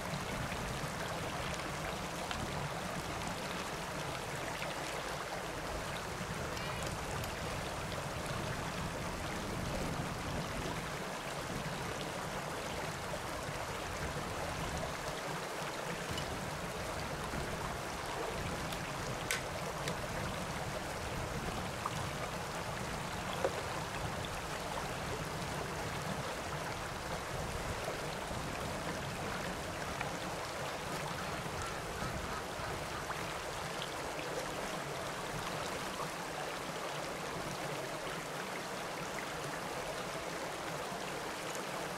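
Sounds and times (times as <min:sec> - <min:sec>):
stream running over rocks: 0:00.0 - 0:41.9.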